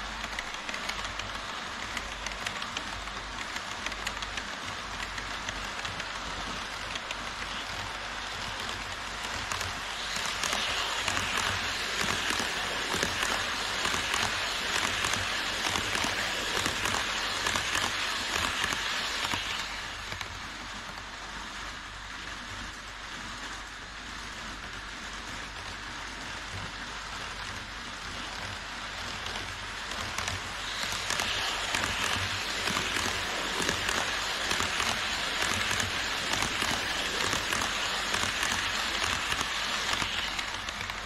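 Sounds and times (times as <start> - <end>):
model train wheels clattering: 0.0 - 23.6, 24.2 - 41.0.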